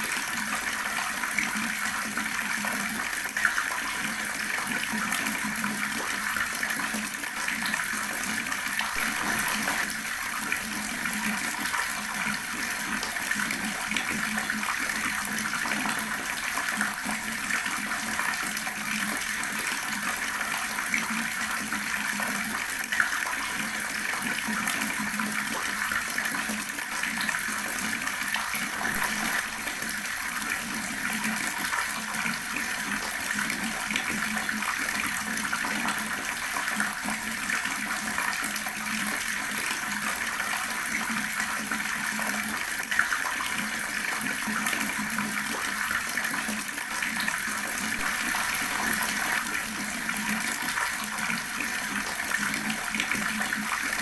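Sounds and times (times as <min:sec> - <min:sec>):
water running from a tap: 0:00.0 - 0:54.0.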